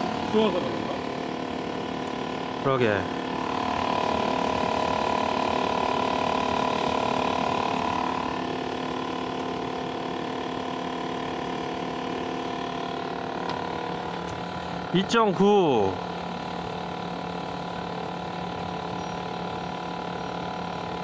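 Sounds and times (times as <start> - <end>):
compressor motor humming: 0.0 - 21.0.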